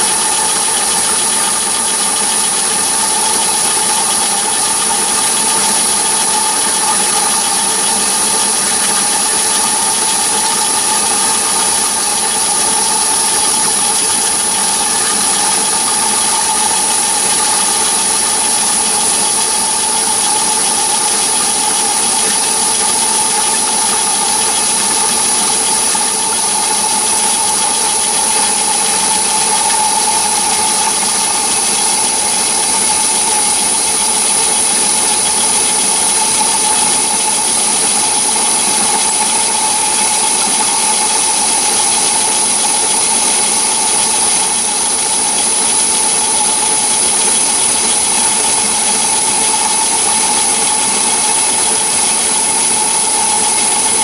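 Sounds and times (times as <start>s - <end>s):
high whine: 0.0s - 54.0s
lathe machine drone: 0.0s - 54.0s.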